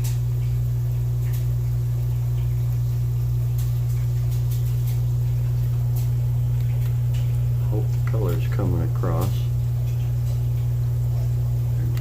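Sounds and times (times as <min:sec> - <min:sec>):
aquarium equipment hum: 0:00.0 - 0:12.0.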